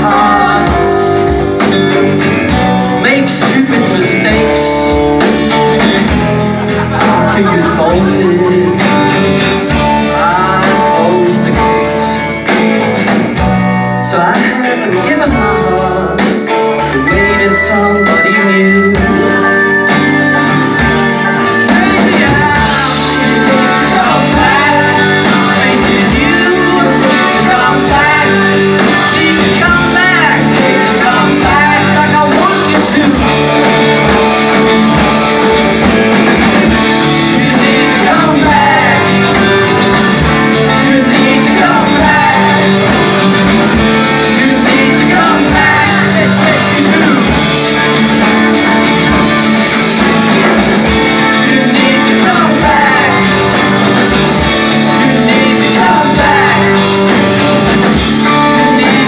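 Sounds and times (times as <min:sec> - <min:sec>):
live rock band with electric guitars: 0:00.0 - 0:59.0.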